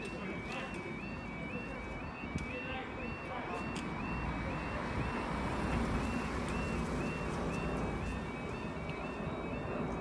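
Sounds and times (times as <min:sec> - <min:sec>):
level crossing alarm: 0:00.0 - 0:10.0.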